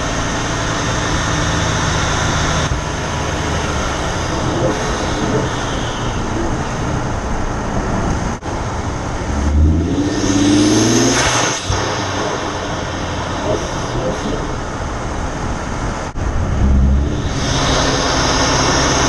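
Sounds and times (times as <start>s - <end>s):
car engine running and accelerating: 0.0s - 19.0s.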